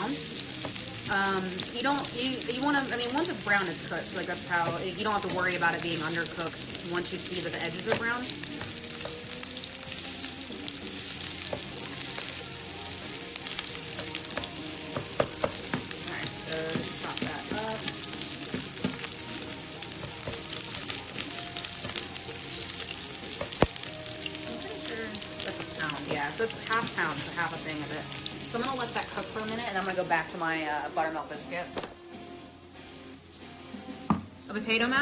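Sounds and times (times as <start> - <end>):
sausage sizzling in a frying pan: 0.0 - 35.0.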